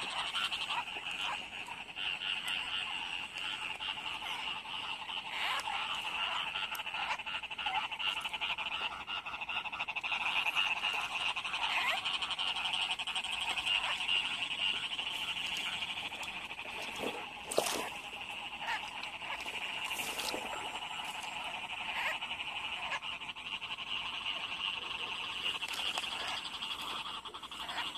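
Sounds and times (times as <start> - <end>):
frogs calling in chorus: 0.0 - 27.9.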